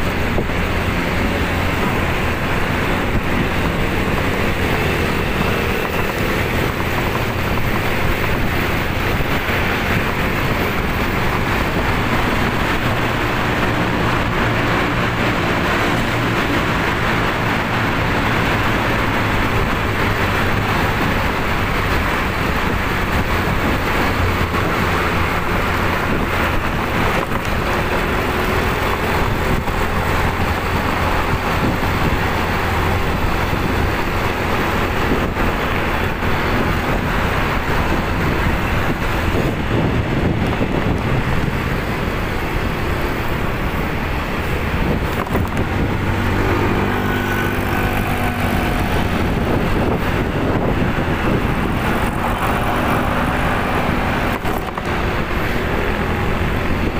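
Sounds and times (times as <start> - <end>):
motorcycle engine running: 0.0 - 56.9
road noise: 0.0 - 56.9
wind rush on microphone: 0.0 - 56.9.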